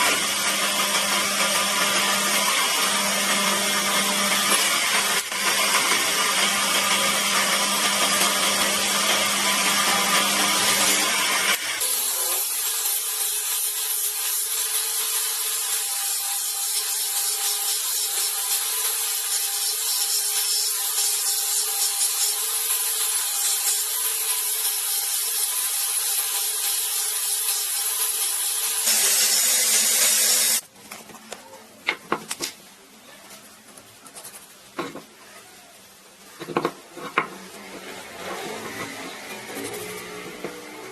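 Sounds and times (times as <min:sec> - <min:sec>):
power tool grinding wood: 0:00.0 - 0:30.6, 0:37.0 - 0:40.9.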